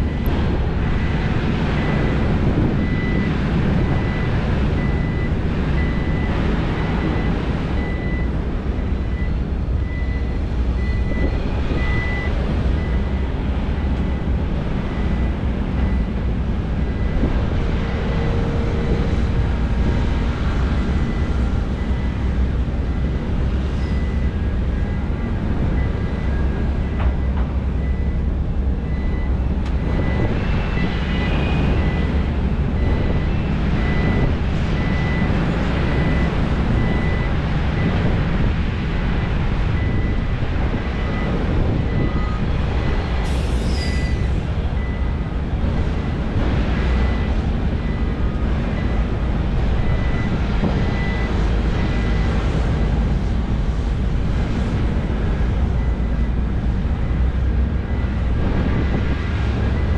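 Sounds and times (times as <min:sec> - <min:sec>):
beeping warning alarm: 0:00.0 - 0:38.0, 0:38.9 - 0:53.0, 0:57.0 - 0:59.9
heavy diesel machinery running: 0:00.0 - 0:59.9.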